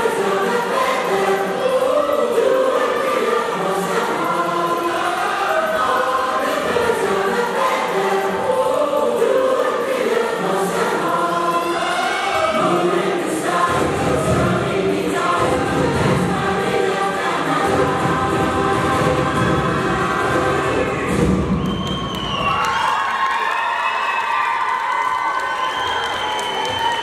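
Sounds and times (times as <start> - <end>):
choir singing long held notes: 0.0 - 22.0.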